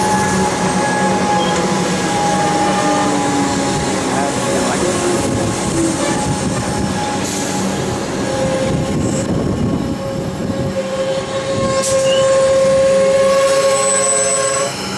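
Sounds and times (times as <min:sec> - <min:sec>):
train squealing tone: 0:00.0 - 0:14.9
train wheels rumbling on rail: 0:00.0 - 0:14.9.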